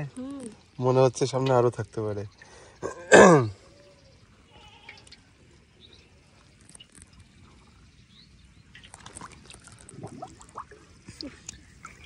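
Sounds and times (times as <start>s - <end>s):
water dripping and trickling: 0.0s - 2.7s, 4.2s - 12.0s
faint bird chirps: 0.1s - 9.8s.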